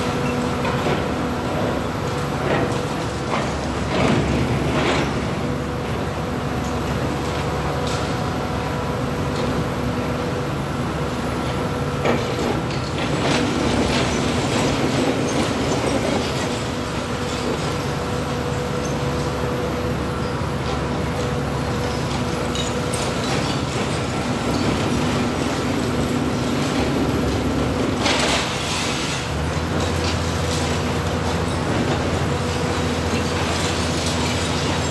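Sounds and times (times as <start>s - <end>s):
excavator engine and hydraulics: 0.0s - 34.9s.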